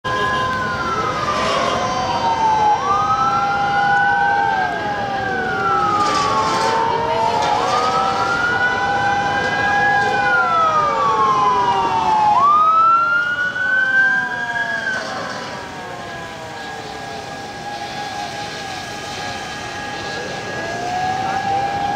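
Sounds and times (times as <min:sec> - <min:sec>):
fire truck sirens wailing: 0:00.0 - 0:21.9.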